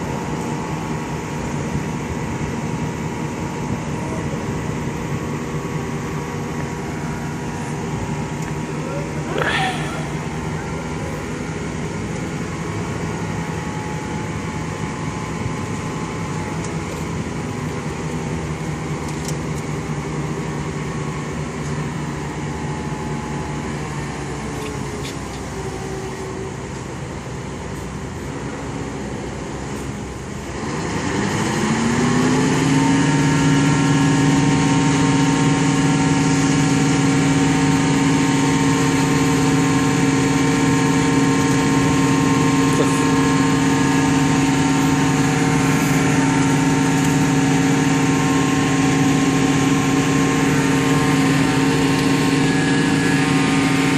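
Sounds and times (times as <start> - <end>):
diesel engine running and revving: 0.0 - 53.9.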